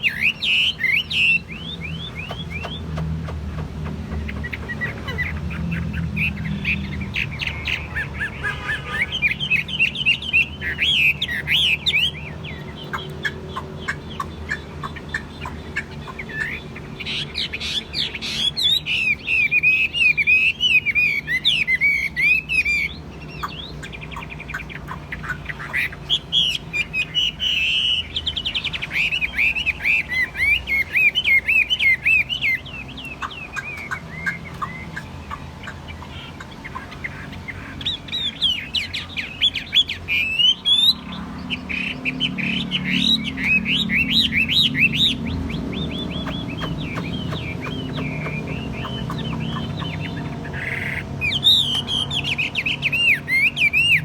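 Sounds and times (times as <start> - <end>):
bird singing rapid warbling phrases: 0.0 - 54.0.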